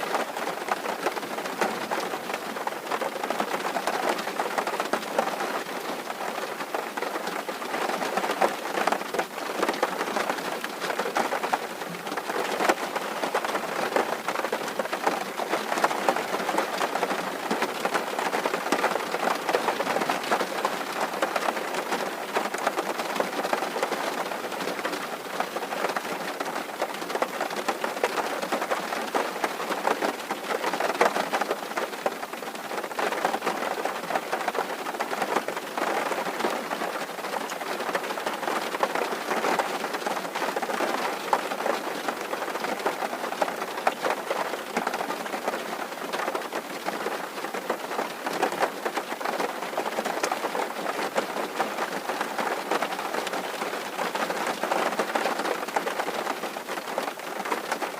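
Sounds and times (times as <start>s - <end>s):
rain drumming on tin roof: 0.0s - 57.9s.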